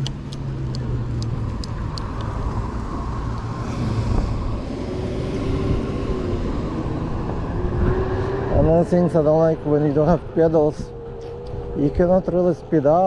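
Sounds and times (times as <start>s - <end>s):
car traffic: 0.0s - 13.0s
road and wind rumble: 0.0s - 13.0s.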